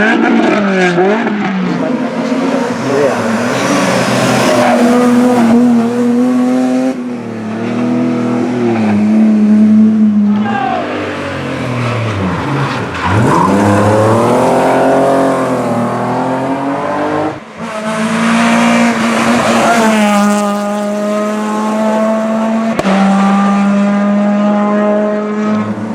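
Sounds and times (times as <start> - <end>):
rally car engines revving: 0.0 - 25.9.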